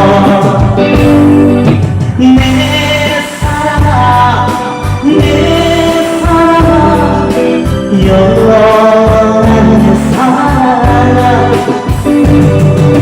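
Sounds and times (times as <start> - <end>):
live band playing: 0.0 - 13.0
person singing: 0.0 - 13.0.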